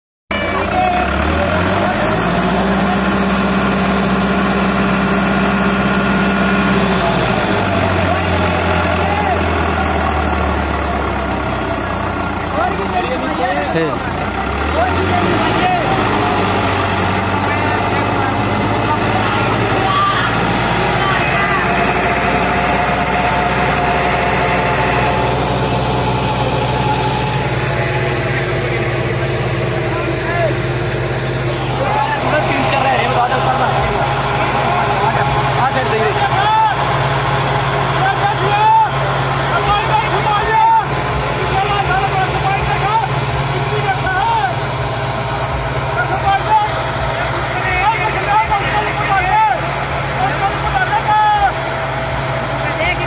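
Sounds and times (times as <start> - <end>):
tractor engine under load: 0.3 - 53.0.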